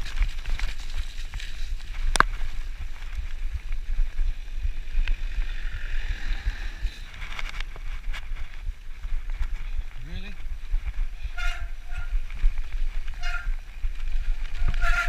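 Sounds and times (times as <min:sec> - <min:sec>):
bike rattling over bumps: 0:00.0 - 0:15.0
wind rumble on microphone: 0:00.0 - 0:15.0.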